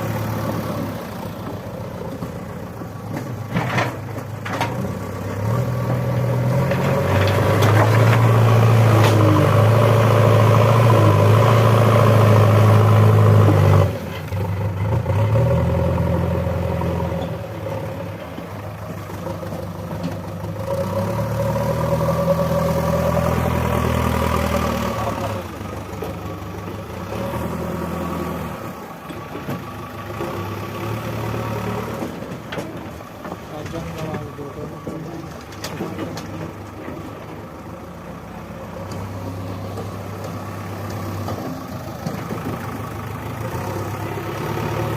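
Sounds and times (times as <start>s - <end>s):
backhoe diesel engine revving: 0.0s - 44.9s.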